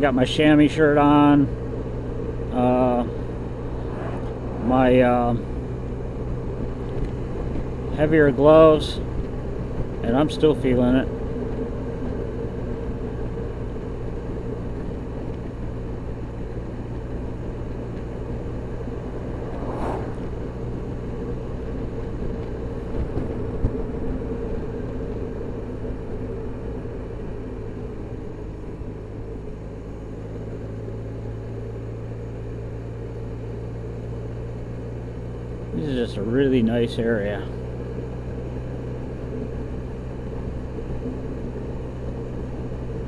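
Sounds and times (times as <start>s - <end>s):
scooter engine hum: 0.0s - 43.0s
wind and road noise: 0.0s - 43.0s.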